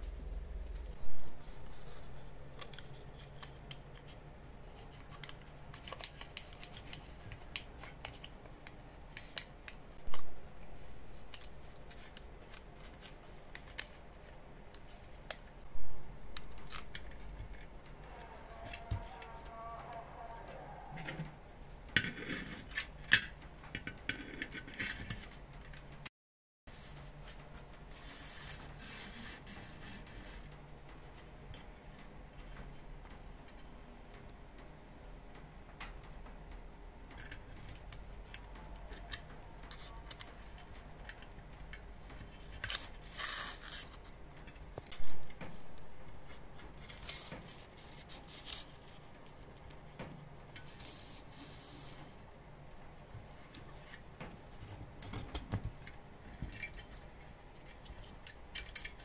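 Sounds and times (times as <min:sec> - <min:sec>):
hands scraping and rubbing parts: 0:00.0 - 0:26.1, 0:37.1 - 0:59.0.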